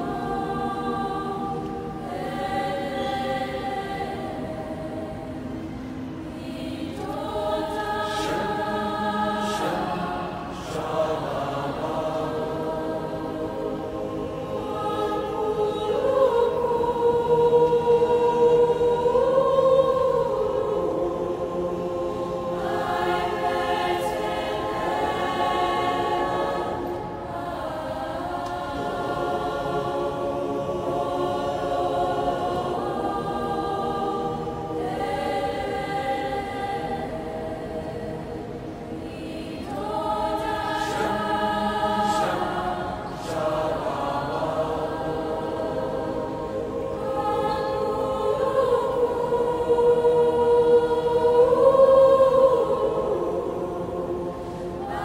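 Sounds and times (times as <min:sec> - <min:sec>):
choir singing held chords: 0:00.0 - 0:55.0.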